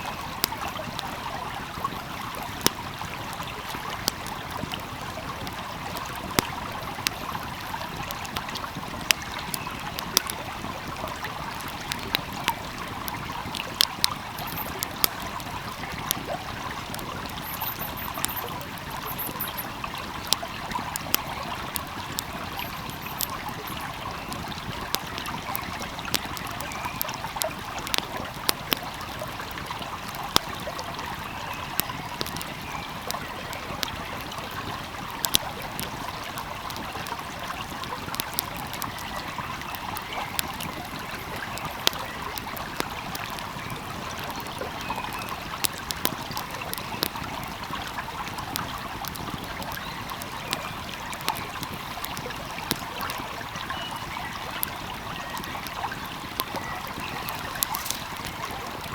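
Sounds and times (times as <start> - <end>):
stream flowing: 0.0 - 58.9
wood fire crackling: 0.0 - 58.9.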